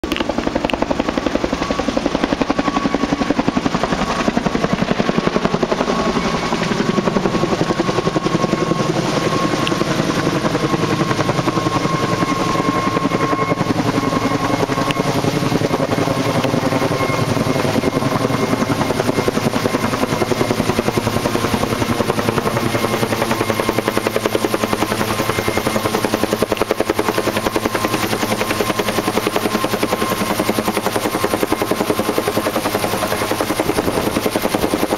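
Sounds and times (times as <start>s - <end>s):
helicopter rotor beating: 0.0s - 34.9s.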